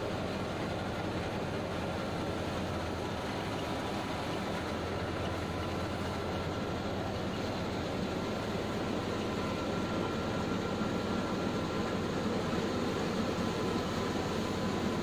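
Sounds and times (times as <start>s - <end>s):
tractor engine: 0.0s - 15.0s.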